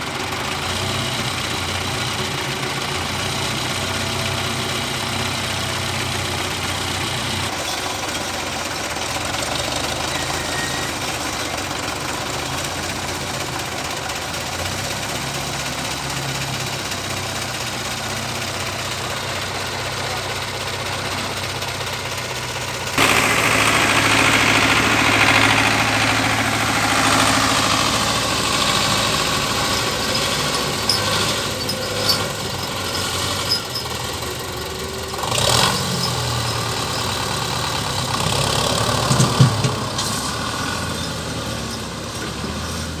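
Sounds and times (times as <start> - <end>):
tractor diesel engines revving: 0.0 - 43.0.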